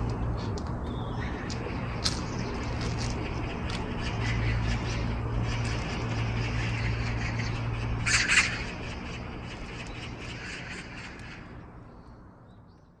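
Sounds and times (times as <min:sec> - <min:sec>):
low machine hum: 0:00.0 - 0:13.0
harsh bird squawk: 0:01.1 - 0:11.6.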